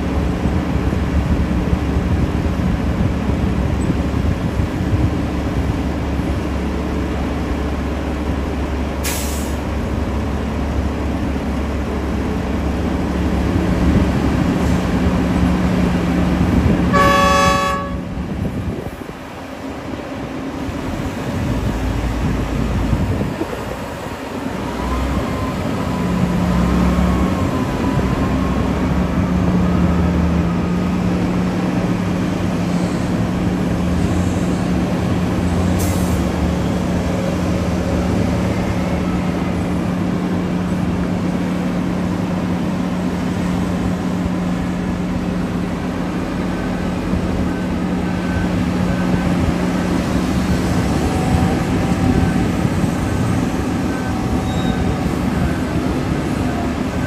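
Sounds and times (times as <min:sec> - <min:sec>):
diesel engines of heavy machinery: 0:00.0 - 0:57.0.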